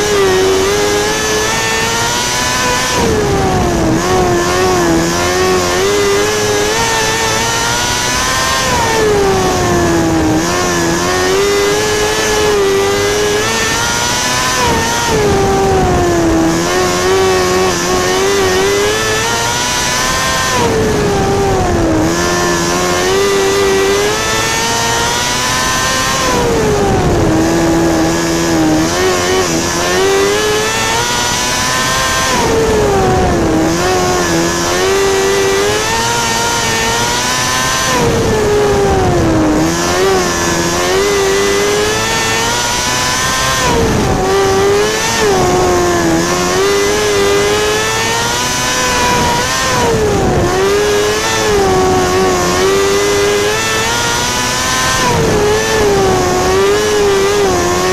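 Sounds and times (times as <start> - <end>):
racing car engine: 0.0 - 57.9.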